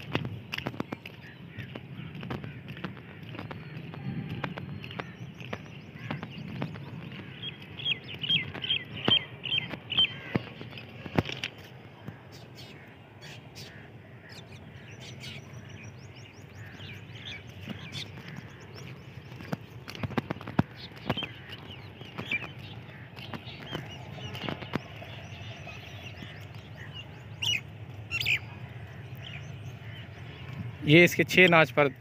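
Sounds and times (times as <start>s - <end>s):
birds chirping and calling: 0.0s - 32.0s
steady low rumble: 0.0s - 32.0s.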